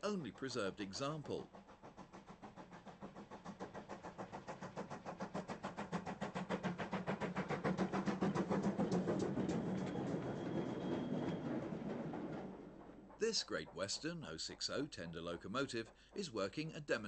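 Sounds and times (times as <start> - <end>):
steam locomotive exhaust beats: 0.0 - 17.0.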